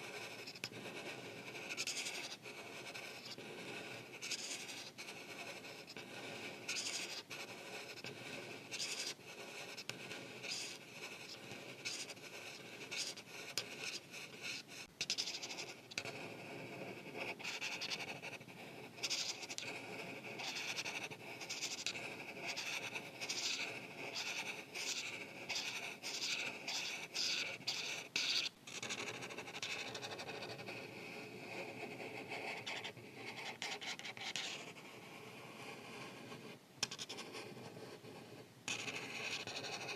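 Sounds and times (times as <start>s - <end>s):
marker scratching on paper: 0.0s - 39.9s.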